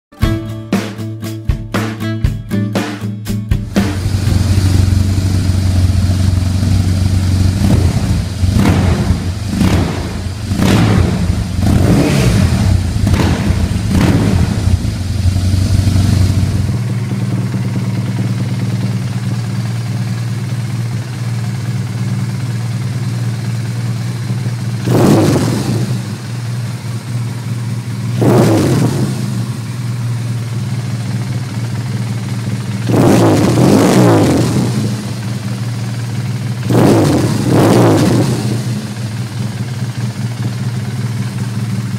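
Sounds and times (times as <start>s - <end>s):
motorcycle engine idling: 3.6s - 41.9s
motorcycle engine revving: 3.7s - 41.9s.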